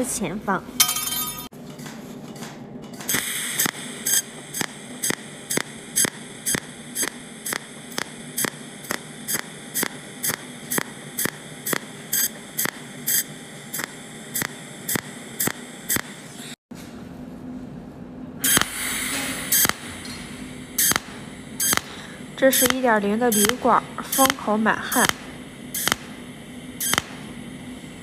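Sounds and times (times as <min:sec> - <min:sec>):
electrical hum: 0:00.0 - 0:28.0
welding arc zapping: 0:03.0 - 0:16.6, 0:18.4 - 0:28.0.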